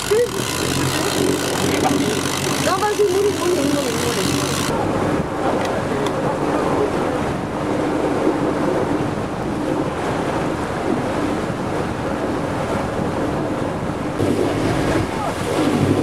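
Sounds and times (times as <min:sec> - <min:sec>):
low boat engine hum: 0:00.0 - 0:16.0
water rushing from boat wake: 0:00.0 - 0:16.0
wind buffeting microphone: 0:00.0 - 0:16.0.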